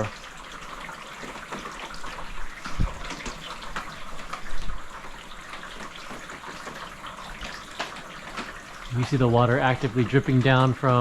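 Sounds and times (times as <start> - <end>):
rain hiss: 0.0 - 11.0
water dripping on plastic roof: 0.0 - 11.0.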